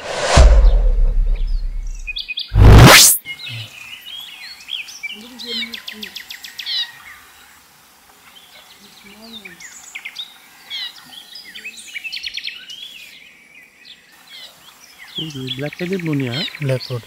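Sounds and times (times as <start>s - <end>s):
birds chirping in a forest: 1.3s - 2.6s, 3.2s - 17.0s.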